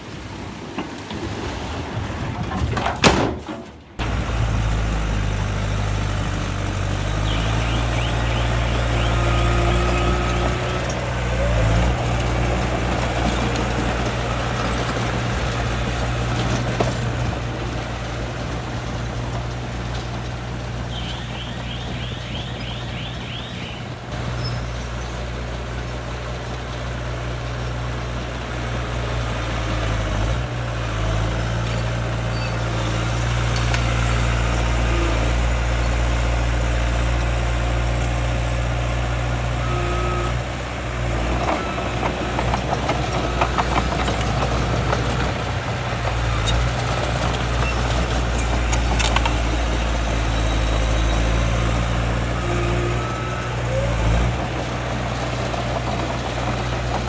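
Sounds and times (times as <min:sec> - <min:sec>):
heavy machinery diesel engine running: 0:00.1 - 0:57.0.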